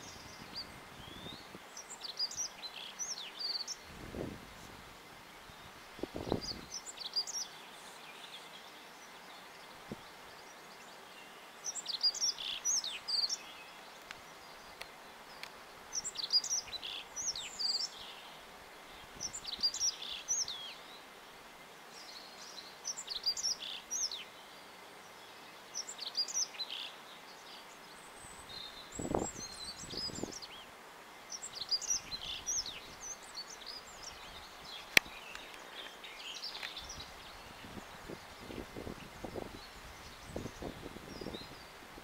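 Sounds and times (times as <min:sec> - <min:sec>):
faint background hiss: 0:00.0 - 0:42.0.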